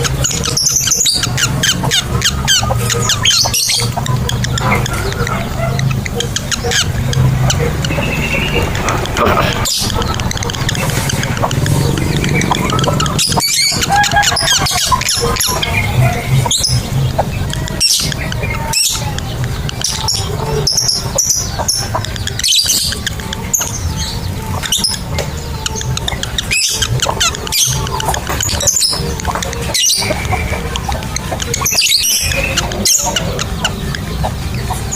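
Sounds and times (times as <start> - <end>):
lovebirds chattering: 0.0 - 34.9.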